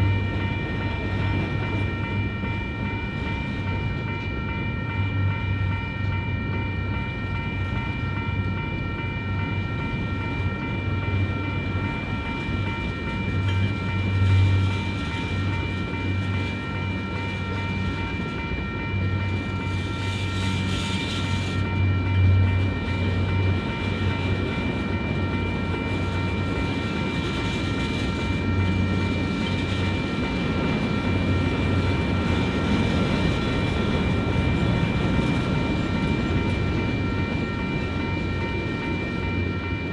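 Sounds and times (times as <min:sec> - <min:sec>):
crossing warning bell ringing: 0:00.0 - 0:39.9.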